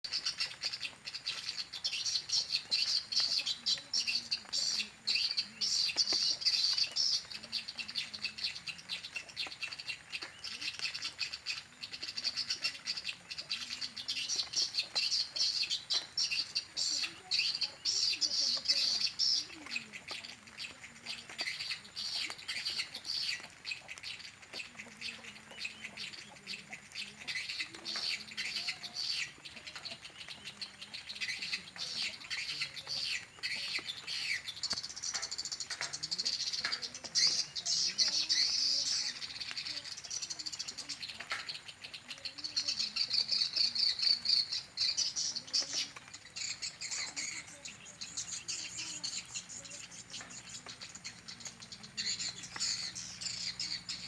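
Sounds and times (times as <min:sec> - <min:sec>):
swiftlet calls twittering chirps: 0:00.0 - 0:54.0.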